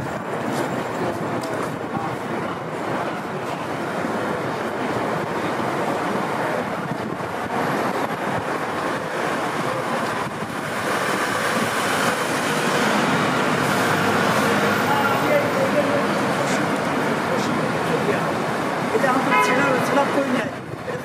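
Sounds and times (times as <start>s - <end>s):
city street traffic: 0.0s - 21.0s.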